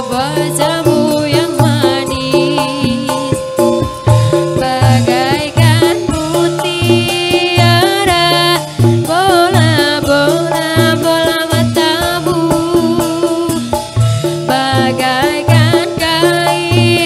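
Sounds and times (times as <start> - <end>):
music with bass and drum beat: 0.0 - 17.0.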